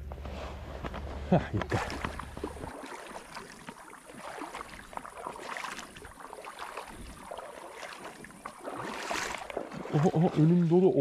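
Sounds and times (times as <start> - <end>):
water splashing and lapping: 0.0 - 11.0
river flowing and gurgling: 0.9 - 11.0.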